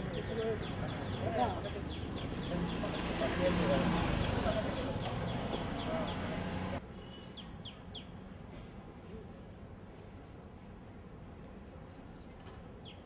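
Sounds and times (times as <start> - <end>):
small birds chirping: 0.0 - 8.2, 9.7 - 13.0
faint steady background noise: 0.0 - 13.0.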